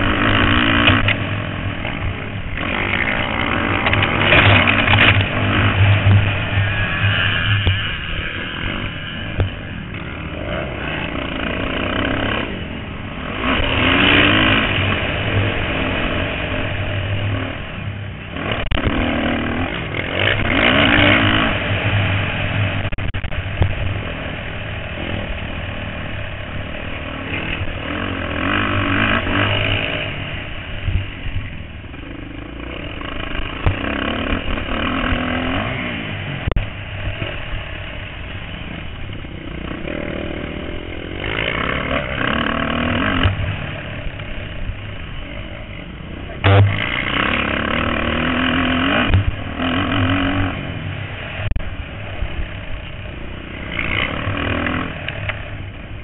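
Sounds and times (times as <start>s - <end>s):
dirt bike engines revving past: 0.0s - 56.0s
drone of bikes on track: 0.0s - 56.0s.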